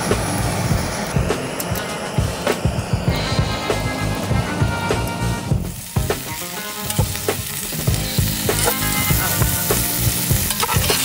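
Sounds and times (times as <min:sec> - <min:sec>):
asparagus sizzling in a pot: 0:00.0 - 0:11.0.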